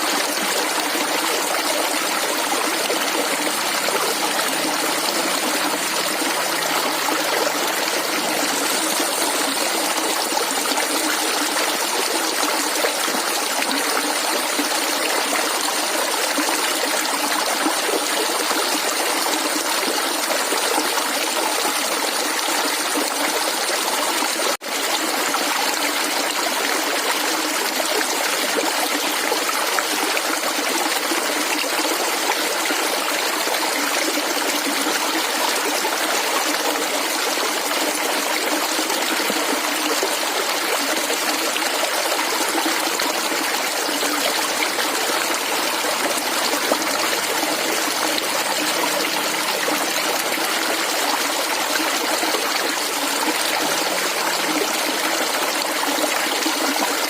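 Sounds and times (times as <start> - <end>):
stream water gurgling: 0.0 - 57.0.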